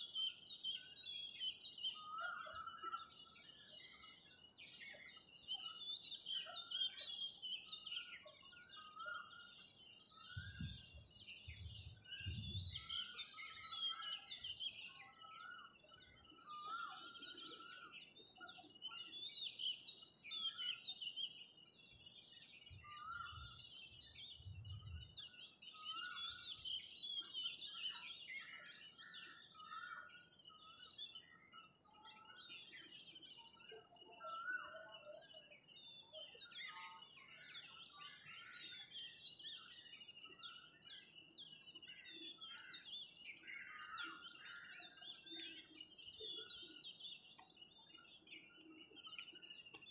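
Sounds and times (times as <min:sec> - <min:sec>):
birds chirping and trilling: 0:00.0 - 0:49.9.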